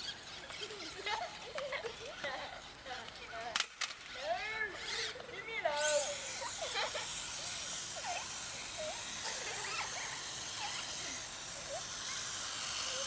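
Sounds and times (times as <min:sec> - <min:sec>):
remote control car motor buzz: 0:00.0 - 0:03.4, 0:04.1 - 0:13.0.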